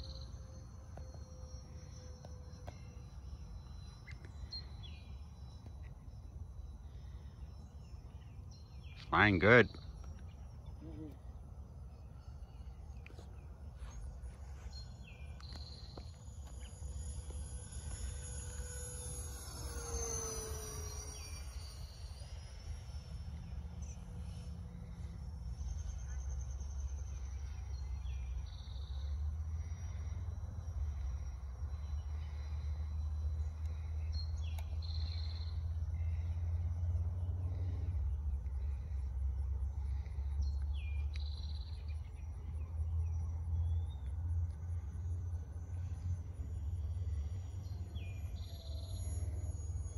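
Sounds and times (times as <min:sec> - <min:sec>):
bird chirps: 0:00.0 - 0:30.7, 0:31.6 - 0:39.1, 0:39.7 - 0:49.9
electric ducted fans whining: 0:00.0 - 0:49.9
steady low rumble: 0:01.5 - 0:49.9.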